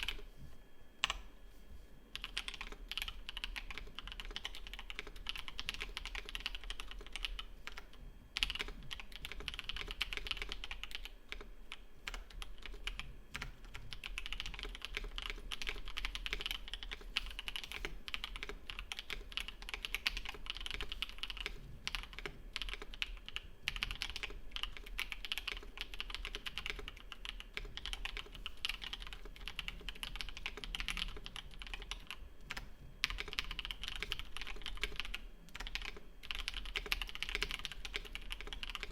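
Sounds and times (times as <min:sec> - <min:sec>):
fast typing on mechanical keyboard: 0:00.0 - 0:00.2, 0:02.2 - 0:38.9.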